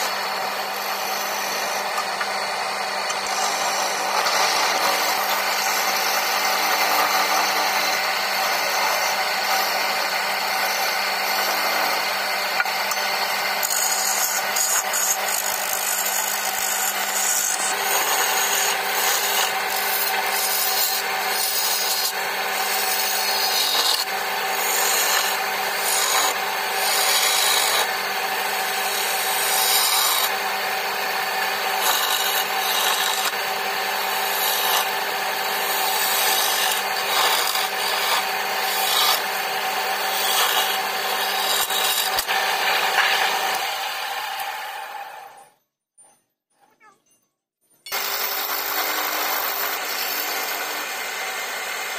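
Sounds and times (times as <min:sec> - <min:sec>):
chisel scraping spinning wood: 0:00.0 - 0:45.4, 0:47.9 - 0:51.9
wood lathe humming: 0:00.0 - 0:45.4, 0:47.9 - 0:51.9.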